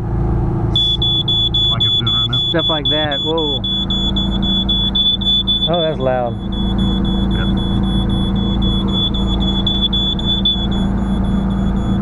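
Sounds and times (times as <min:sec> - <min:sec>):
steady low hum: 0:00.0 - 0:12.0
high-pitched electronic alarm beep: 0:00.8 - 0:12.0.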